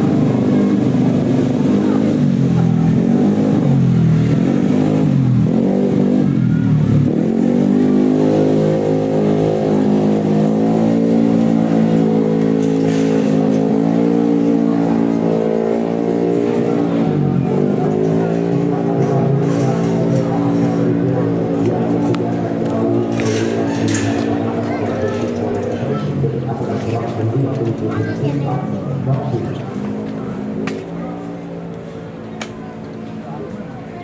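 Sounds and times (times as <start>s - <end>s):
scooter engine revving: 0.0s - 33.8s.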